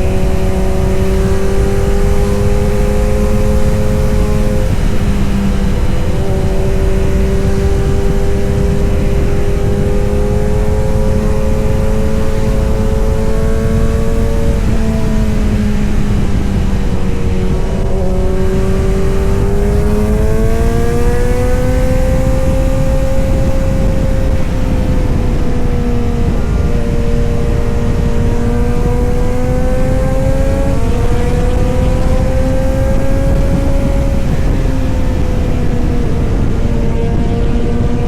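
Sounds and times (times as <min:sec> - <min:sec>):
motorcycle engine and exhaust: 0:00.0 - 0:38.0.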